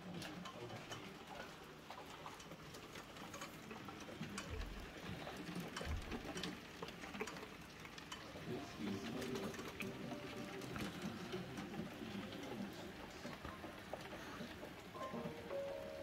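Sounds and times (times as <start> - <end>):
rain tapping and dripping: 0.0 - 16.0.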